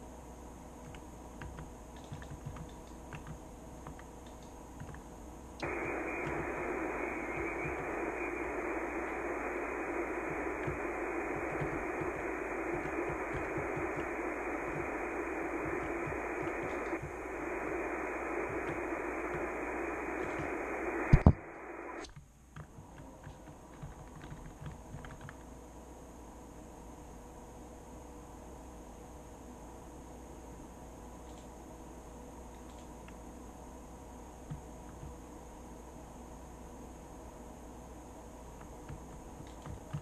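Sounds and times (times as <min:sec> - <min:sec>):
radio static hiss: 0:01.0 - 0:25.8, 0:26.6 - 0:40.0.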